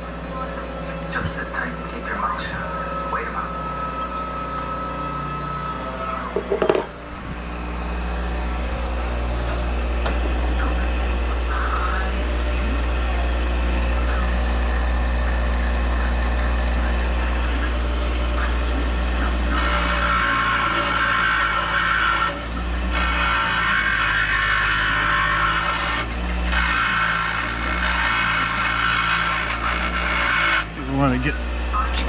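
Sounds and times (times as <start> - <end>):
high steady whine: 0.0 - 32.0
motor droning: 0.0 - 32.0.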